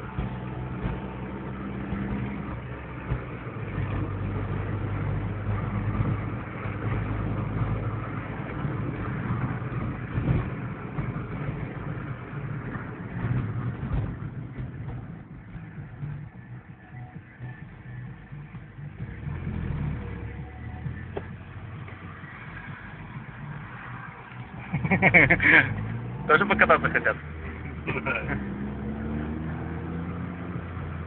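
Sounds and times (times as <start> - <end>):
car engine running: 0.0 - 31.0
road noise: 0.0 - 31.0.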